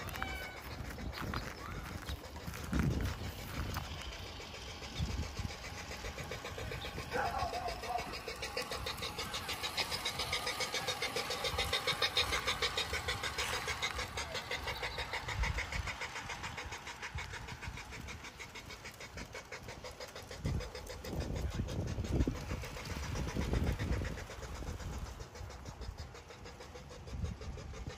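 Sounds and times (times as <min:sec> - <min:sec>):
model train clattering on track: 0:00.0 - 0:27.9.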